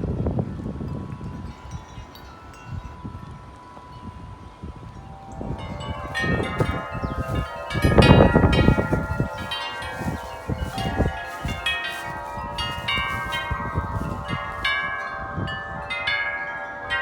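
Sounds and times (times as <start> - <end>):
metal tube wind chimes ringing: 0.0 - 17.0
wind buffeting microphone: 0.0 - 17.0.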